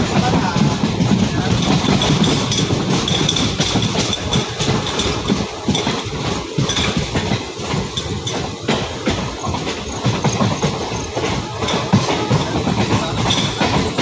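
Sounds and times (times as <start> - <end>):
track clicks and clatter: 0.0 - 14.0
train wheels rumbling on rails: 0.0 - 14.0.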